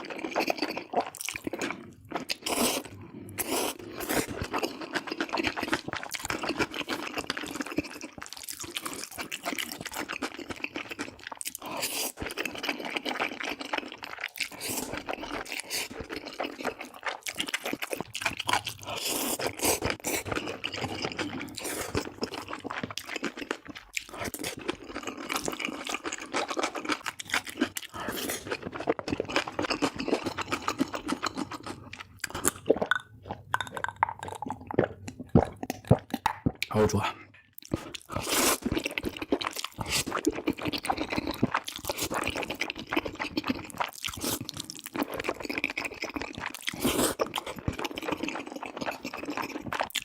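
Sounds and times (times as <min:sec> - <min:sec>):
wet chewing and mouth smacking: 0:00.0 - 0:50.0.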